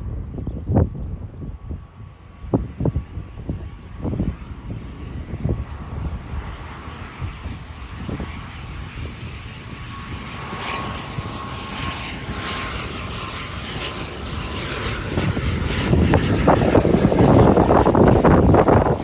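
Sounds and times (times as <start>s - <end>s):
turboprop engines rumbling: 0.0s - 19.0s.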